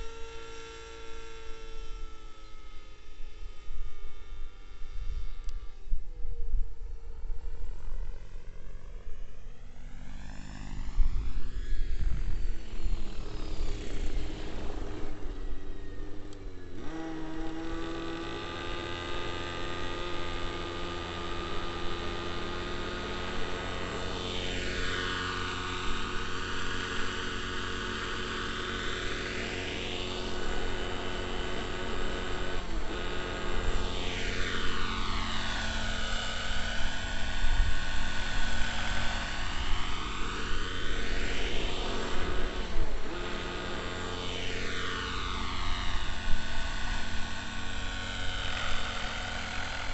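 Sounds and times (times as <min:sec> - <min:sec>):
model helicopter engine buzzing: 0:00.0 - 0:49.9.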